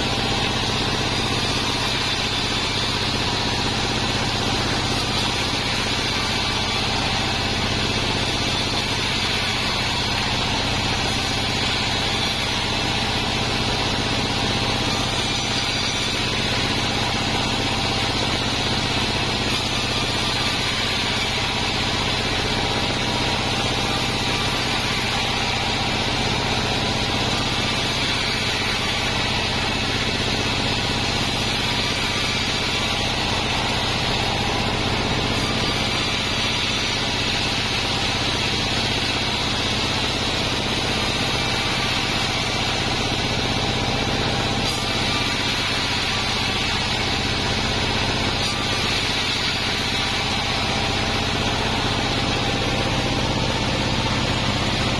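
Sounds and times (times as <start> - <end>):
band saw humming and hissing: 0.0 - 54.9.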